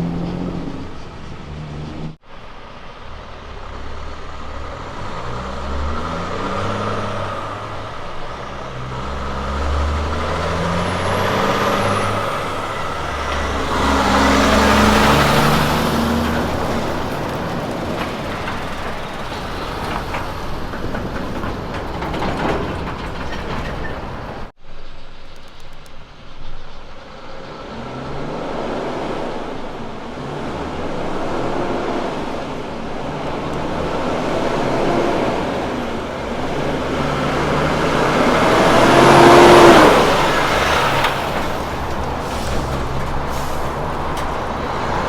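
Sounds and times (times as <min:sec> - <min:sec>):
diesel trucks driving past: 0:00.0 - 0:45.0.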